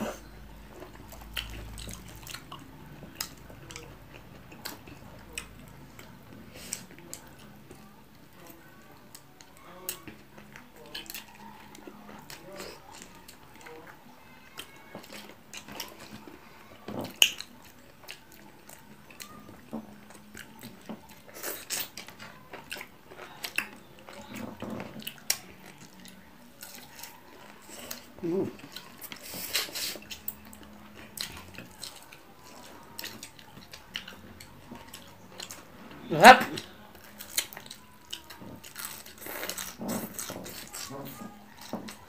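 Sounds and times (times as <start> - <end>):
chewing and biting: 0.0 - 35.8, 36.4 - 42.0.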